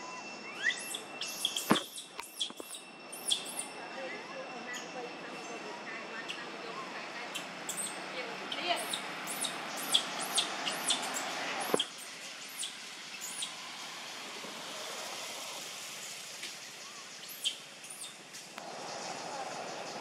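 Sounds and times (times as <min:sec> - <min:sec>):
high-pitched chirping calls: 0:00.0 - 0:13.6, 0:16.6 - 0:20.0
steady outdoor hiss: 0:00.0 - 0:20.0.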